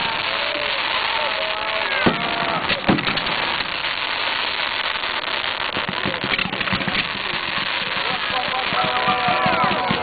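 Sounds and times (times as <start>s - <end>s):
fireworks crackling: 0.0s - 10.0s
loud firework bangs: 0.0s - 10.0s.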